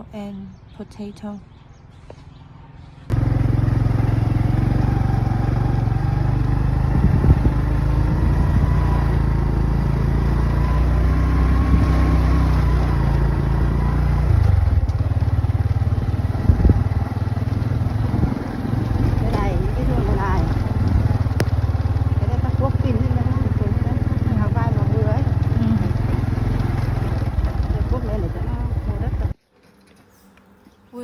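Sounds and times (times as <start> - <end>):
small engine running: 3.1 - 29.4.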